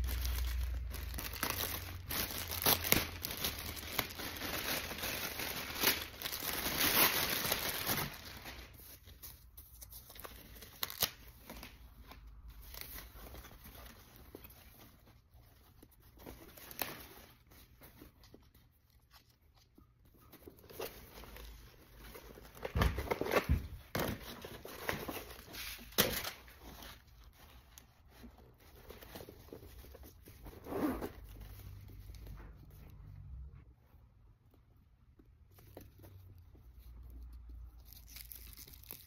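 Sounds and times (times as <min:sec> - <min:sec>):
tissue paper rustling: 0:00.0 - 0:32.8.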